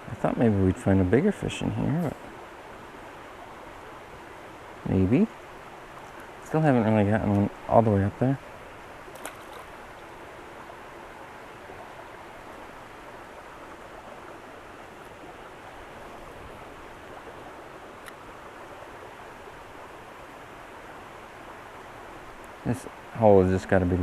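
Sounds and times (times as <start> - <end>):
creek water running into pool: 0.0 - 24.0.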